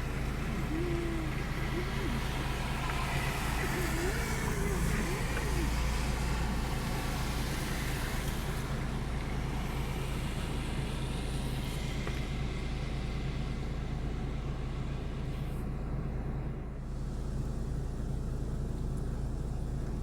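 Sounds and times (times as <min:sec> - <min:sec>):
engine running with low hum: 0:00.0 - 0:20.0.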